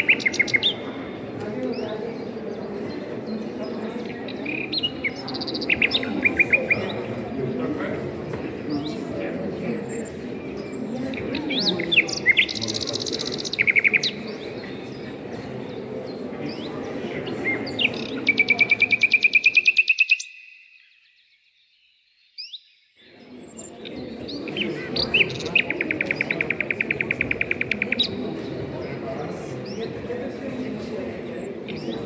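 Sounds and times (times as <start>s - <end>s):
small songbirds chirping and trilling: 0.0s - 32.0s.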